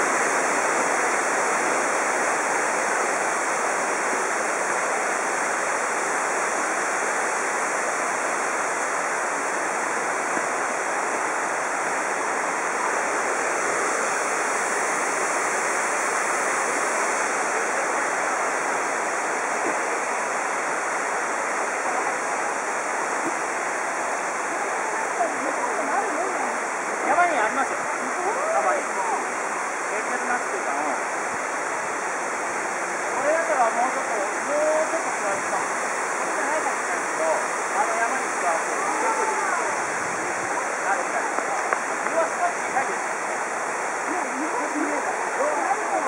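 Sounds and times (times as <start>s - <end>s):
mountain stream rushing: 0.0s - 46.0s.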